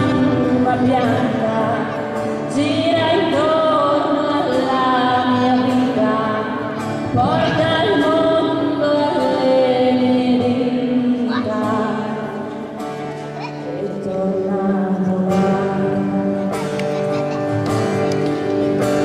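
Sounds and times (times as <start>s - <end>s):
woman singing into a microphone: 0.0s - 13.0s, 13.6s - 18.0s
strummed acoustic guitar: 0.0s - 19.0s.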